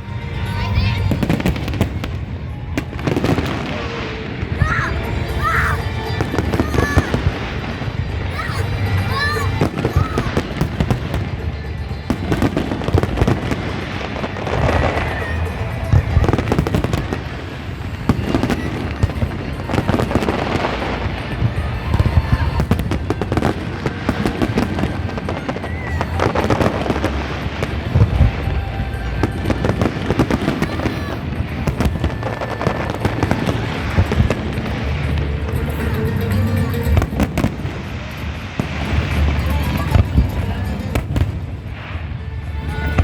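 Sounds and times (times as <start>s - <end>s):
fireworks whistles: 0.0s - 35.9s
fireworks bangs: 0.0s - 43.0s
fireworks crackling: 0.0s - 43.0s.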